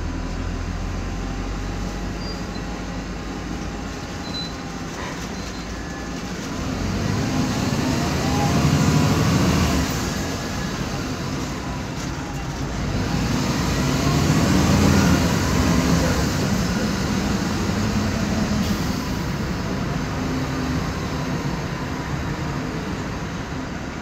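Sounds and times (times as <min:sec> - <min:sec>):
bus drivetrain drone: 0:00.0 - 0:24.0.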